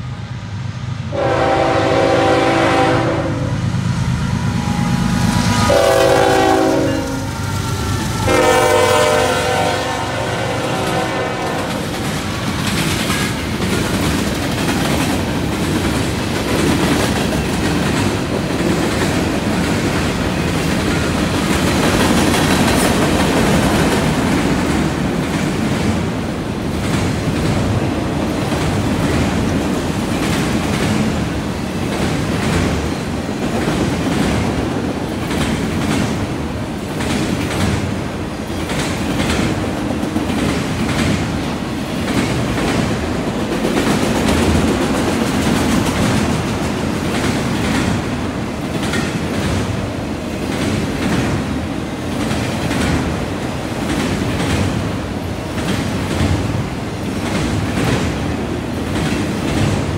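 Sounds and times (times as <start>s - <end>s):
freight train rolling past: 0.0s - 59.9s
steel wheels rumbling on rail: 0.0s - 59.9s.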